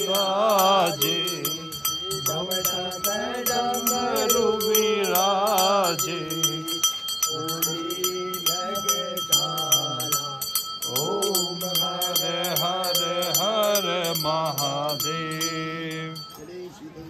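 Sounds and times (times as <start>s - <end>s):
small hand bell ringing: 0.0s - 16.5s
man singing devotional chant: 0.0s - 17.0s.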